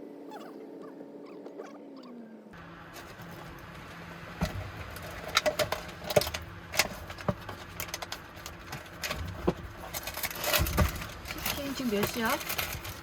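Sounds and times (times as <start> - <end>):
car engine idling: 2.5 - 13.0.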